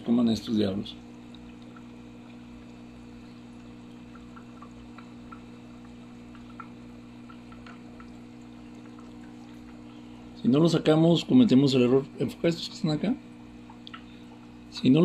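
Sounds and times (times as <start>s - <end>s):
steady low hum: 0.0s - 15.0s
water trickling through siphon hose: 0.1s - 15.0s
small water drips: 0.3s - 15.0s.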